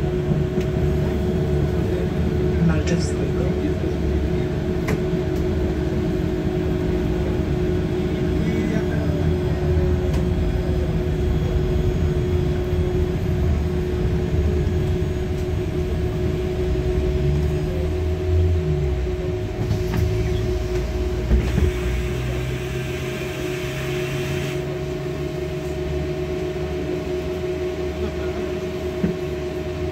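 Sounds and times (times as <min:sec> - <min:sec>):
bus diesel engine drone: 0:00.0 - 0:29.9
constant whine: 0:00.0 - 0:29.9.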